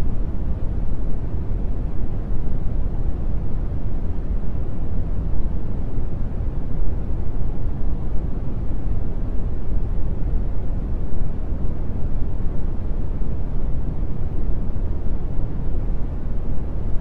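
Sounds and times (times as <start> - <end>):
brown noise hiss: 0.0 - 17.0.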